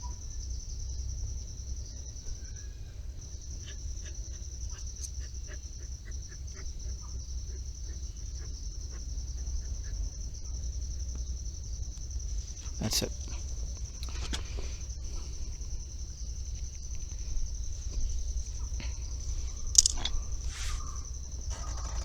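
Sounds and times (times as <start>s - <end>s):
crickets trilling: 0.0s - 22.0s
low background rumble: 0.0s - 22.0s.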